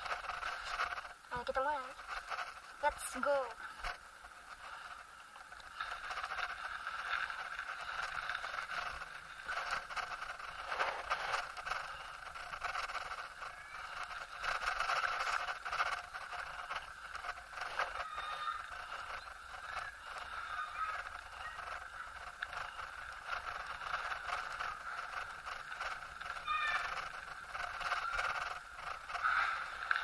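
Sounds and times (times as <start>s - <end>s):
bicycle rolling on pavement: 0.0s - 30.0s
bike rattling: 0.0s - 30.0s.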